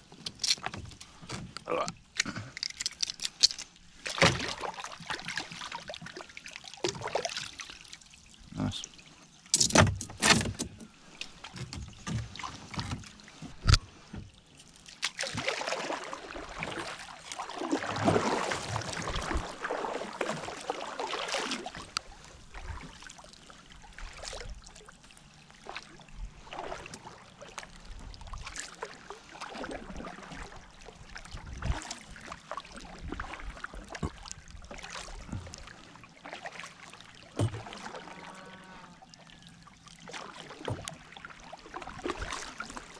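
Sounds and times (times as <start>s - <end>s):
paddle splashing through water: 3.4s - 8.3s, 9.6s - 42.9s.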